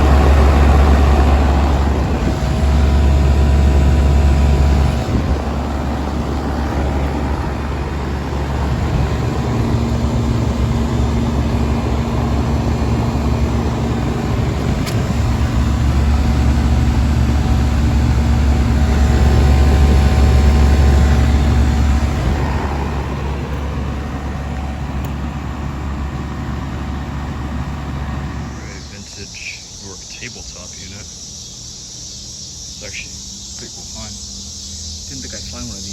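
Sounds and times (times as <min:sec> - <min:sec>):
air conditioner unit humming: 0:00.0 - 0:35.9.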